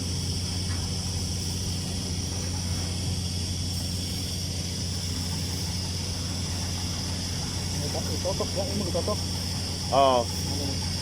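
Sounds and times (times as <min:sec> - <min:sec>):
faint high whine: 0:00.0 - 0:11.0
low machine hum: 0:00.0 - 0:11.0.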